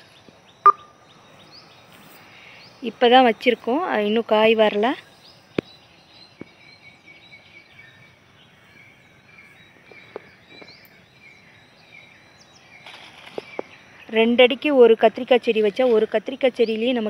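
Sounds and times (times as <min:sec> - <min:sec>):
faint birds chirping: 0:00.0 - 0:17.0
low outdoor hiss: 0:00.0 - 0:17.0.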